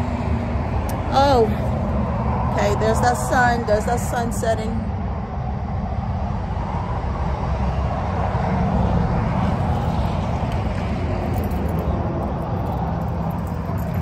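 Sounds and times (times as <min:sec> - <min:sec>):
car passing on road: 0:00.0 - 0:14.0.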